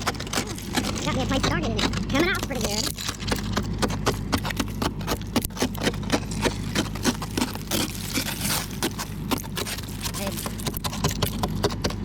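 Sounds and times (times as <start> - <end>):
ice scraper scraping windshield: 0.0 - 12.0.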